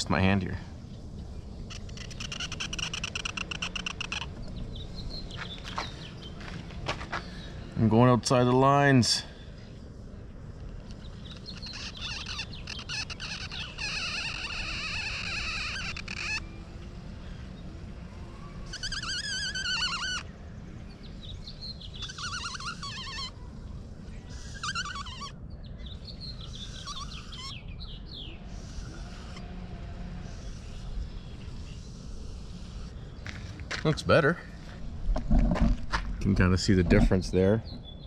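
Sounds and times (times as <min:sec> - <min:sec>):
low background rumble: 0:00.0 - 0:38.0
songbirds singing: 0:00.0 - 0:38.0.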